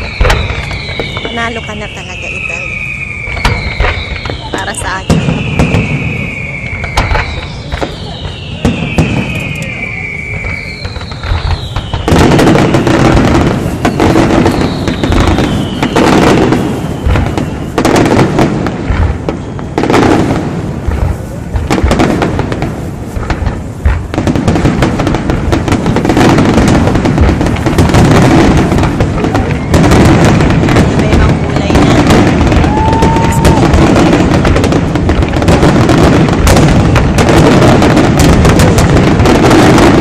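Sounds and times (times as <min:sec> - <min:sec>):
falling firework whistles: 0:00.0 - 0:40.0
fireworks bursting and crackling: 0:00.0 - 0:40.0.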